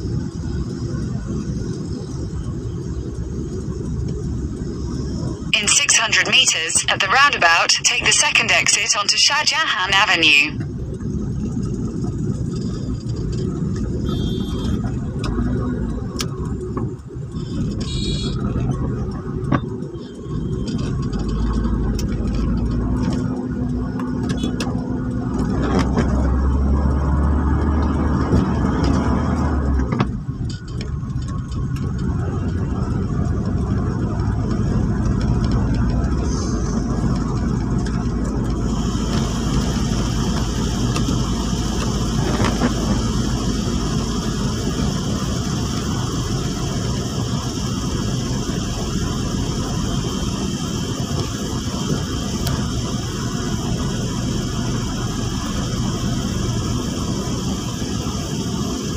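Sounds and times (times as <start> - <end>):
car engine and tyre noise: 0.0 - 58.9.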